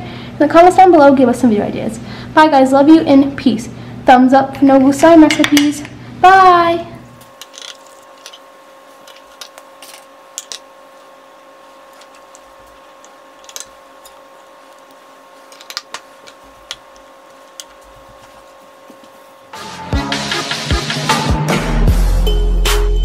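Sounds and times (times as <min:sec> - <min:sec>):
faint steady hum: 0:00.0 - 0:19.6.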